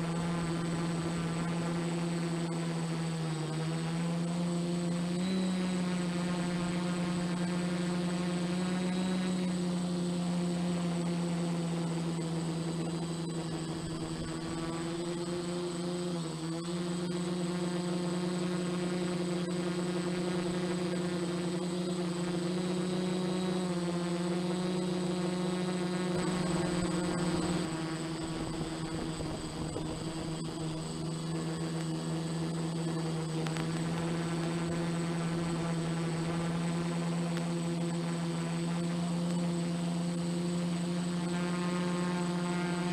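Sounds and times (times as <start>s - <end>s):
quadcopter propellers buzzing: 0.0s - 42.9s.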